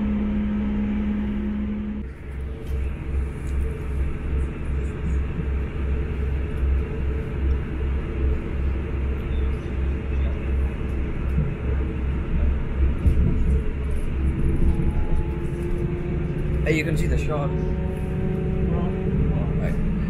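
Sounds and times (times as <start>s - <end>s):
diesel train engine rumbling: 0.0s - 20.0s
wheels running on track: 0.0s - 20.0s.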